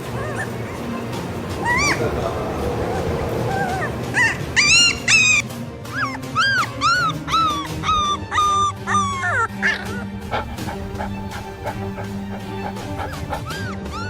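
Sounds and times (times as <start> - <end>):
background music: 0.0 - 14.0
dog whimpering: 0.0 - 14.0.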